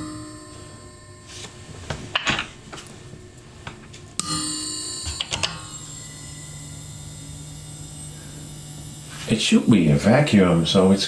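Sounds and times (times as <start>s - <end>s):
metallic ringing of filament wires: 0.0s - 2.5s, 4.1s - 10.8s.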